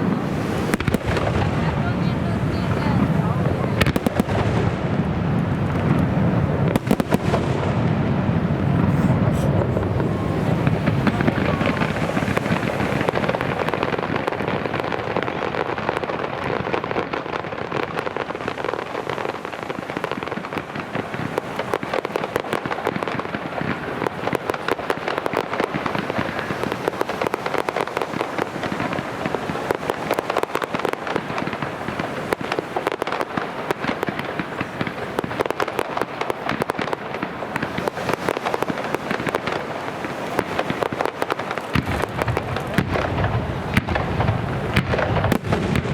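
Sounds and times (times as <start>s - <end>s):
fireworks crackling: 0.0s - 45.9s.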